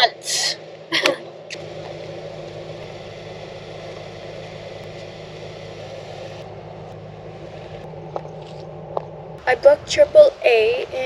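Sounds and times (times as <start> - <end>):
vehicle engine idling: 0.6 - 11.0.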